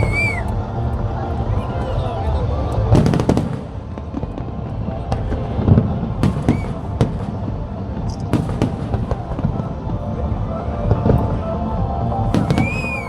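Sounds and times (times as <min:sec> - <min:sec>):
fireworks bangs and crackles: 0:00.0 - 0:00.6, 0:02.8 - 0:13.0
low rumble of distant explosions: 0:00.0 - 0:13.0.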